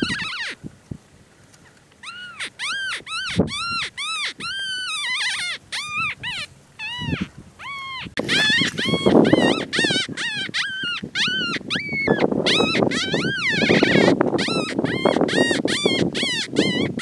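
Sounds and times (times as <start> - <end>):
coyote yips: 0.0 - 0.6, 2.0 - 17.0.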